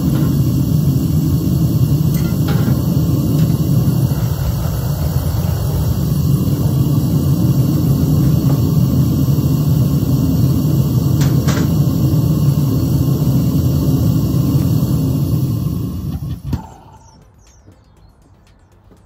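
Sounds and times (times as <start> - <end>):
gas burner roaring: 0.0 - 17.4.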